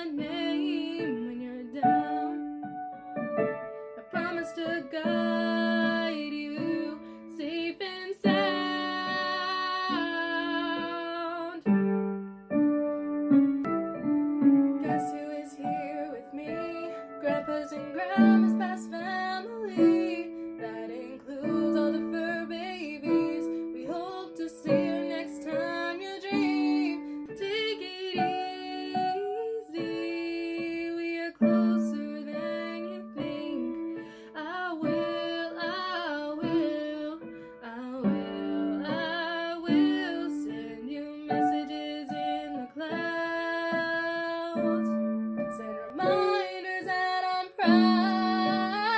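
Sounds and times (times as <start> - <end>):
woman singing: 0.0 - 12.2, 13.7 - 48.9
piano accompaniment: 0.0 - 48.9.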